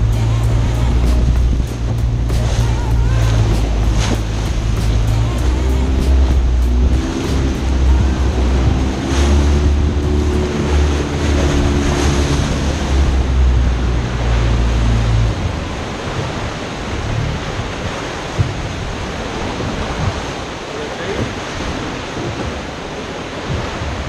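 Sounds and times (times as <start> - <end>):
boat engine humming: 0.0 - 24.0
sea water splashing: 0.0 - 24.0
wind on microphone: 0.0 - 24.0.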